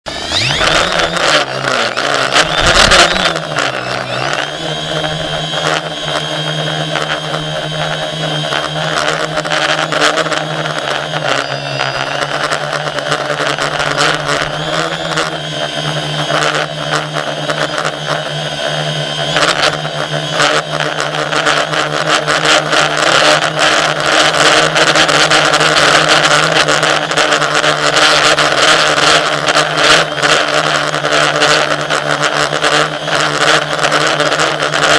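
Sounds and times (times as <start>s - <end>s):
motor running: 0.1s - 34.9s.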